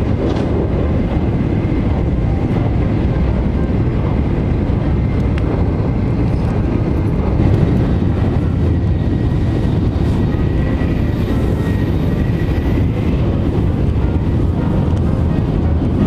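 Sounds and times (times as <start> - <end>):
train cabin low rumble: 0.0 - 16.0.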